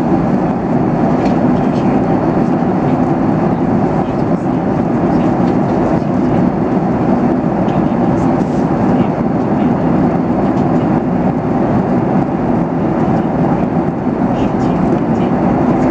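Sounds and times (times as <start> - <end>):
airplane cabin noise: 0.0 - 15.9.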